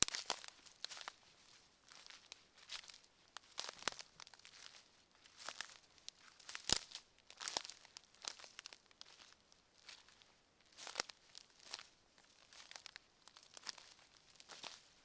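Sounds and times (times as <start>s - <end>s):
footsteps on forest floor: 0.0s - 10.2s, 12.5s - 14.9s.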